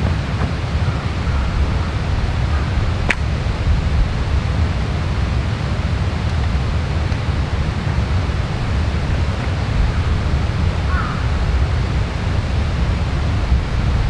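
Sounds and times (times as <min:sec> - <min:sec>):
rushing wind: 0:00.0 - 0:14.0.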